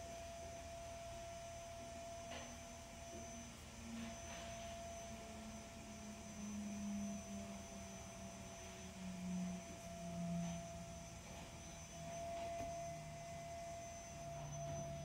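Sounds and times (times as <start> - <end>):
faint high whine: 0.0 - 15.0
low background hum: 0.0 - 15.0.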